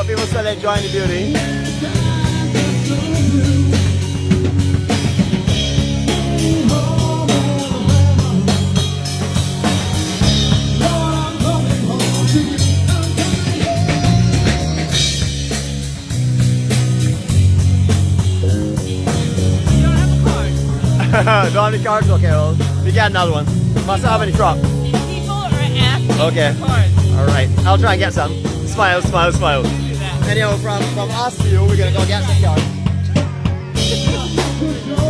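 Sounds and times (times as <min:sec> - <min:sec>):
bass notes: 0:00.0 - 0:35.0
drum kit beat: 0:00.0 - 0:35.0.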